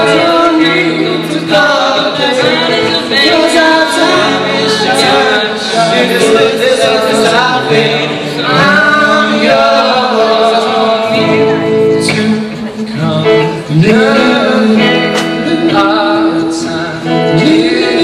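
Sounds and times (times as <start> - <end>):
guitar backing: 0.0 - 18.0
male voices singing in harmony: 0.0 - 18.0.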